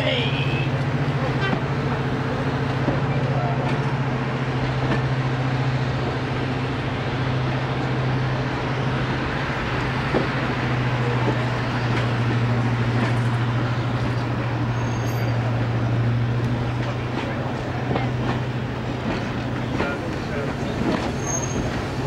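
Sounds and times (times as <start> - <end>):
diesel locomotive engines droning: 0.0 - 22.0.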